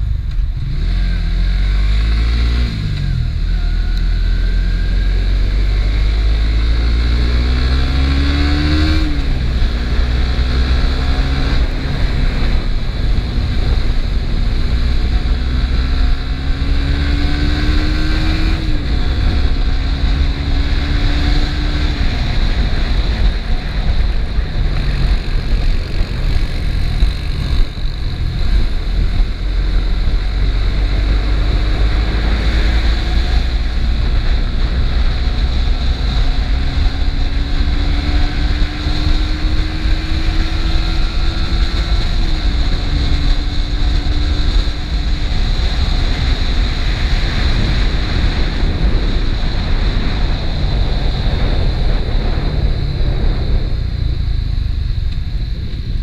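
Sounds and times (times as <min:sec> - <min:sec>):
motorcycle engine revving: 0:00.0 - 0:56.0
wind rumble on microphone: 0:00.0 - 0:56.0.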